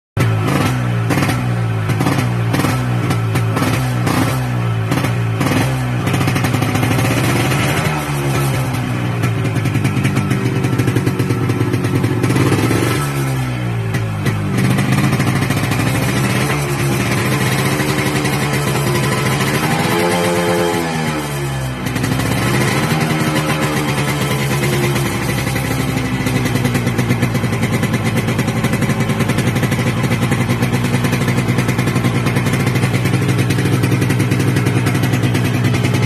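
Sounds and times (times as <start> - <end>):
two-stroke engine revving: 0.2 - 36.0.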